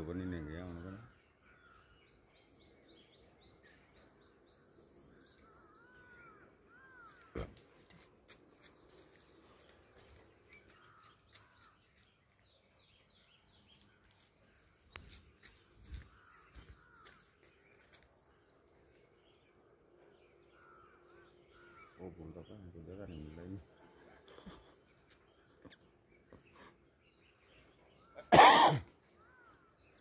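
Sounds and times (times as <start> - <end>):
faint birds chirping: 0.0 - 30.0.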